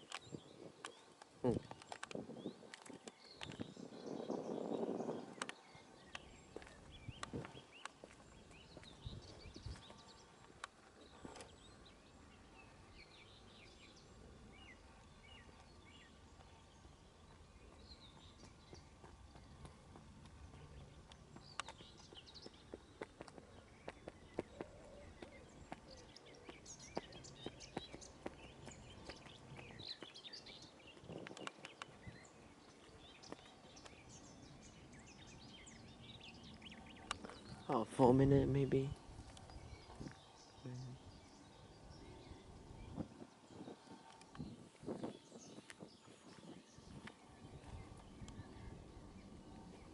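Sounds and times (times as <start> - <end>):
faint bird chirps: 0.0 - 49.9.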